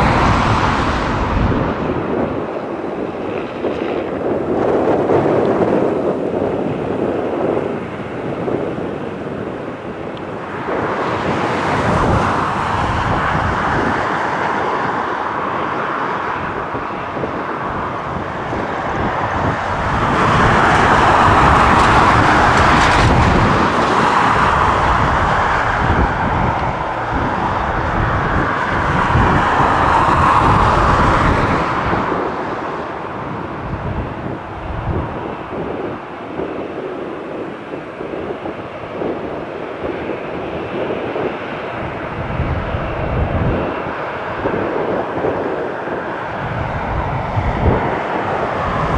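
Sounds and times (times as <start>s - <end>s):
helicopter rotor noise: 0.0s - 48.9s.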